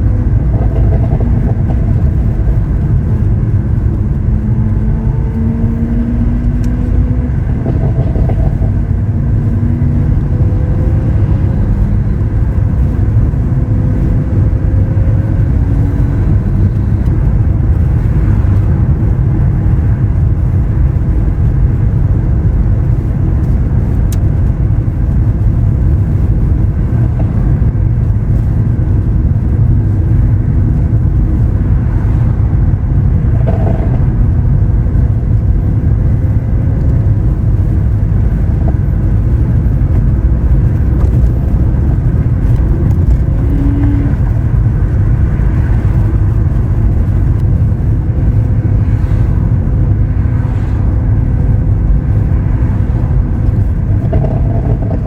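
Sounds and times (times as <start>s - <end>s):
car engine cruising deep rumble: 0.0s - 55.0s.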